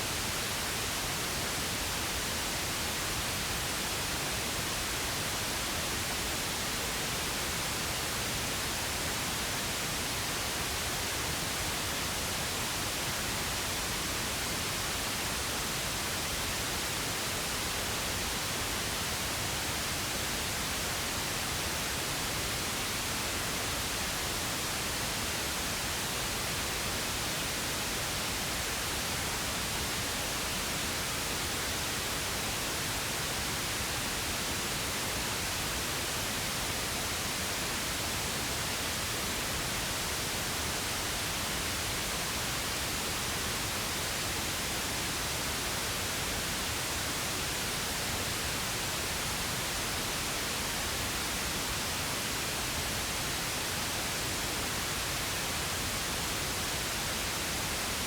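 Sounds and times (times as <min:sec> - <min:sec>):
steady pink noise hiss: 0:00.0 - 0:58.0.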